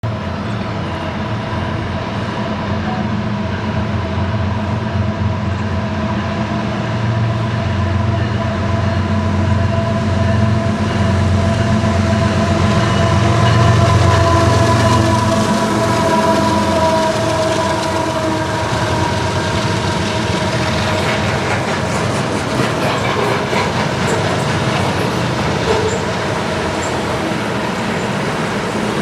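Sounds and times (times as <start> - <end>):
freight train rumble: 0.0 - 29.0.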